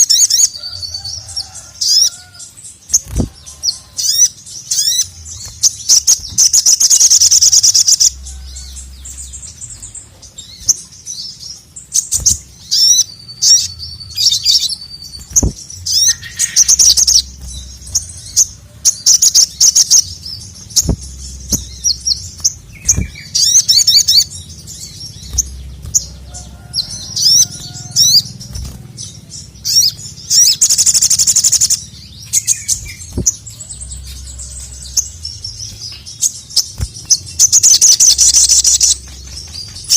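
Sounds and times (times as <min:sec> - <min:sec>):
sunbird chattering trills: 0:00.0 - 0:39.9.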